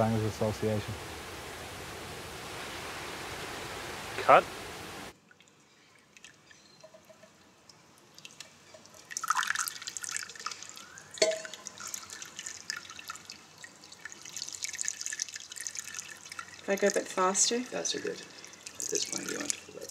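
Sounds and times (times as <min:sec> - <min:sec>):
water dripping and trickling: 0:00.0 - 0:19.9.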